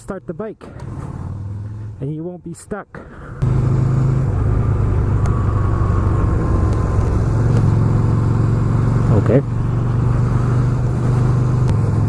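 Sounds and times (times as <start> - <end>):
motorcycle engine humming: 0.6 - 2.1, 3.0 - 12.0.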